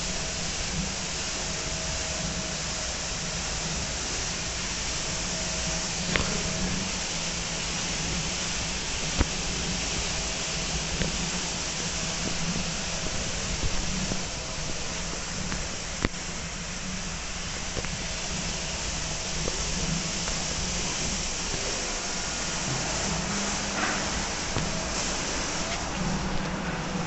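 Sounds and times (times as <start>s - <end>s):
hiss of spray: 0.0s - 27.0s
low machine hum: 0.0s - 27.0s.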